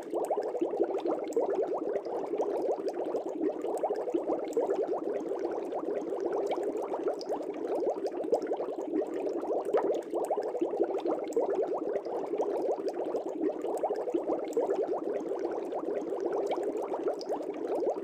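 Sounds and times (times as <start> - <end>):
aquarium air bubbles gurgling: 0.0 - 18.0.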